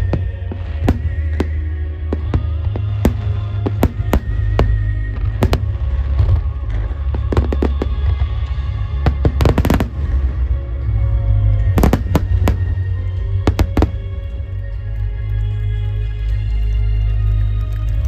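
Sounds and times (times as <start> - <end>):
fireworks cracking and banging: 0.0 - 18.0
low rumble: 0.0 - 18.0
music playing: 0.0 - 18.0.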